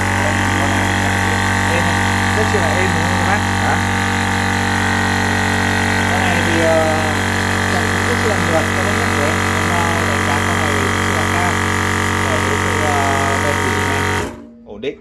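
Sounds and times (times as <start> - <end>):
air compressor humming: 0.0 - 14.6.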